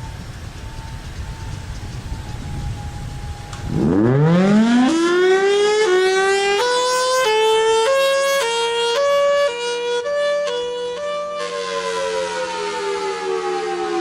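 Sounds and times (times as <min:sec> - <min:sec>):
siren wailing two pitches: 0:00.0 - 0:14.0.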